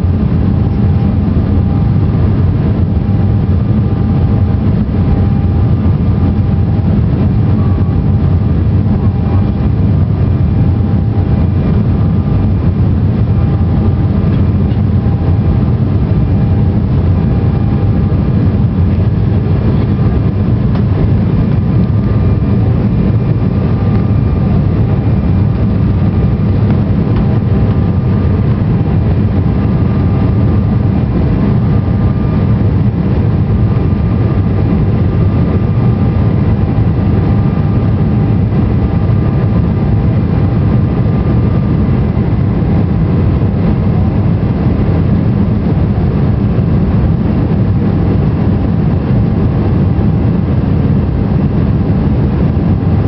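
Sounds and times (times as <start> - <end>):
faint high whine: 0.0 - 53.0
jet engines rumbling in cabin: 0.0 - 53.0.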